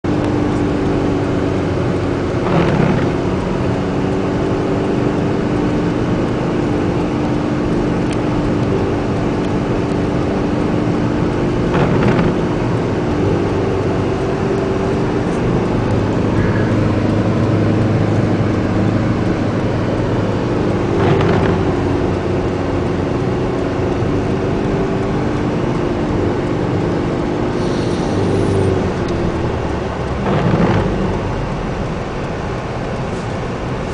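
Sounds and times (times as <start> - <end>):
car engine hum: 0.0 - 33.9
road and wind noise: 0.0 - 33.9.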